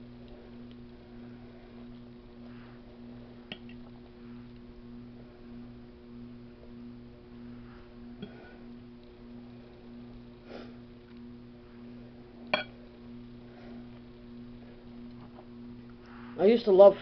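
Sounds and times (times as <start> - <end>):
soft eating sounds: 0.0 - 5.8, 6.6 - 16.4
low electrical hum: 0.0 - 17.0.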